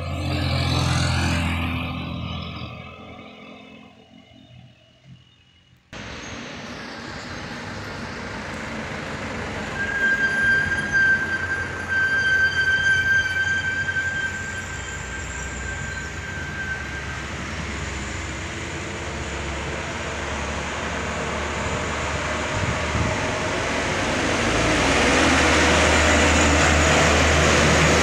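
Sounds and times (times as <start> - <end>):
bus diesel engine: 0.0 - 28.0
road noise: 0.0 - 28.0.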